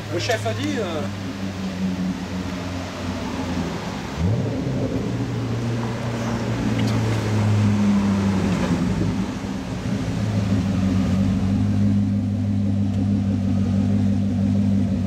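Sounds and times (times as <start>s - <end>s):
car engine rumbling at low revs: 0.0s - 15.0s.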